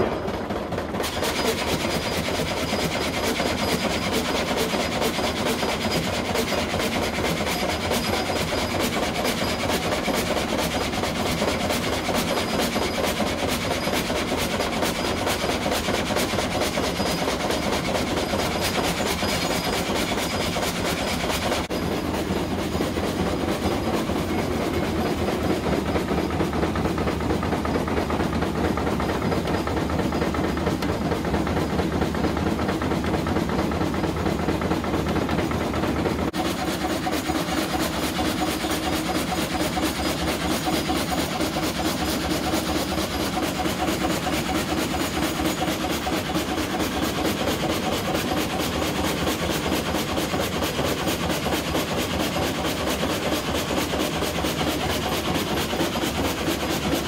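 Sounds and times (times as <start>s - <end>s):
frame saw sawing through log: 0.0s - 57.0s.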